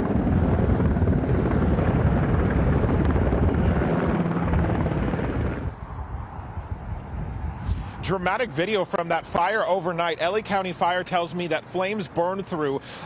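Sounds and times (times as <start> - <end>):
gusty wind buffeting microphone: 0.0 - 11.7.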